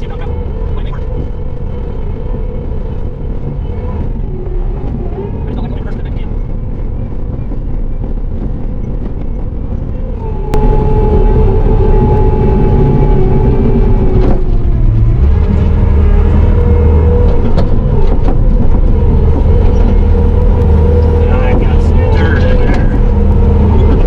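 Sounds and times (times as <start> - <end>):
deep drone: 0.0 - 24.0
diesel engine running under load: 0.0 - 24.0
steady whine: 0.0 - 24.0.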